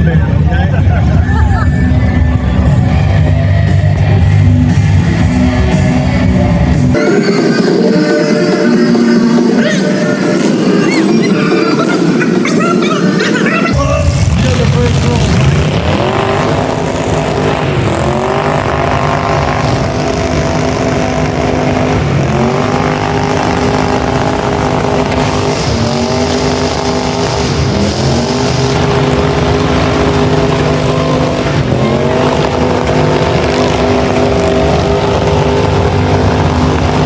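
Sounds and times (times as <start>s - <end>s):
car engines revving high: 0.0s - 37.0s.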